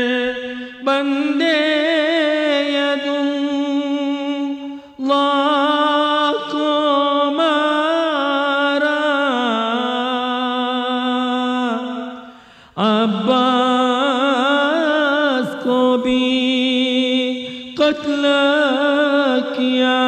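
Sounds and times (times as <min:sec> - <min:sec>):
man chanting unaccompanied: 0:00.0 - 0:20.0.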